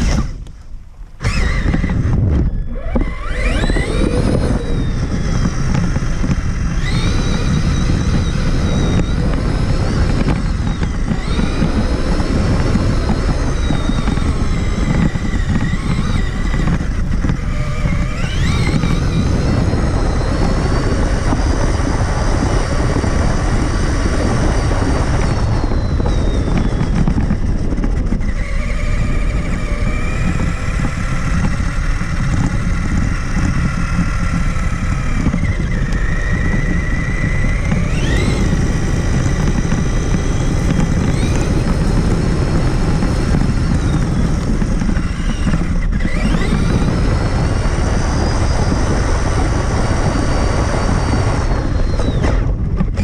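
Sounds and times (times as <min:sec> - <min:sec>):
electric motor whining: 0:00.0 - 0:53.0
tyres rumbling on rough ground: 0:00.0 - 0:53.0.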